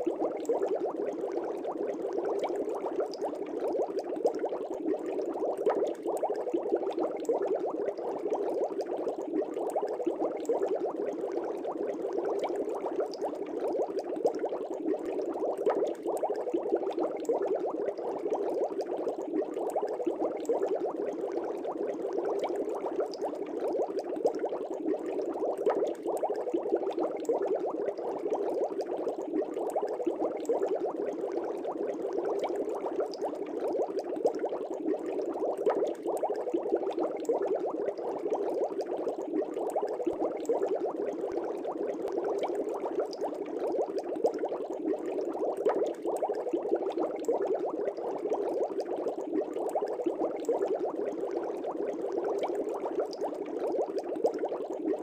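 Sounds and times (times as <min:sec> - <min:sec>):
aquarium air bubbling: 0:00.0 - 0:55.0.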